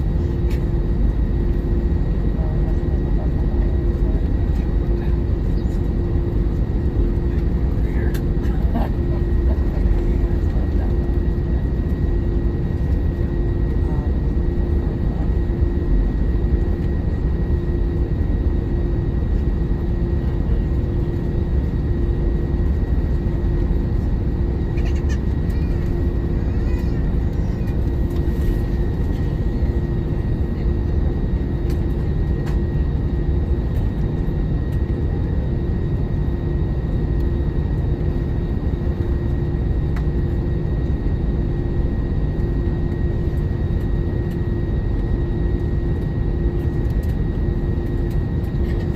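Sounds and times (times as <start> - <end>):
jet engine cabin rumble: 0.0 - 48.9.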